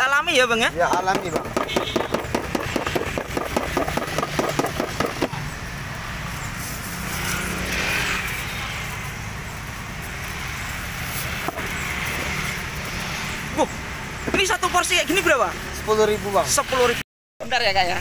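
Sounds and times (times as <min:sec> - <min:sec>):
street traffic passing: 0:00.0 - 0:18.0.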